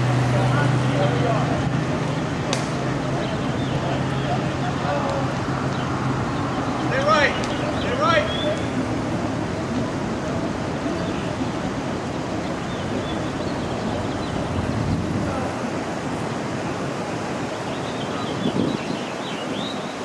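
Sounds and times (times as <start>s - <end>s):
street ambience: 0.0s - 20.0s
wind buffeting microphone: 1.0s - 20.0s.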